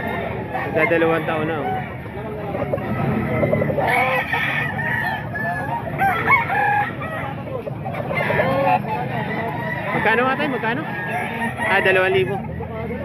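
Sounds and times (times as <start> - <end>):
roosters crowing and clucking: 0.0 - 13.0.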